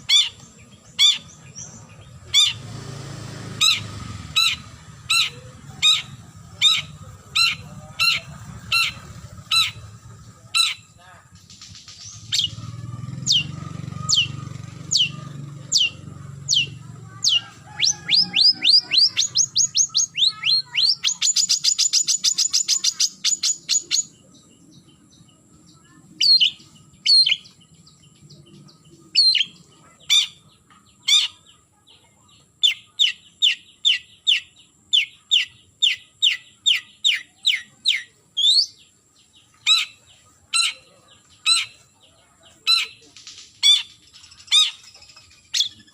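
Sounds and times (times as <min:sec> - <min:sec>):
shrike harsh calls and chattering: 0:00.0 - 0:45.9.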